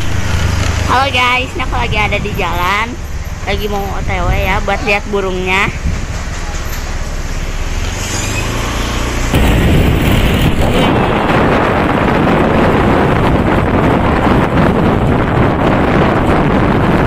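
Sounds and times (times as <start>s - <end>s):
vehicle engine hum: 0.0s - 17.0s
wind rushing on microphone: 0.0s - 17.0s.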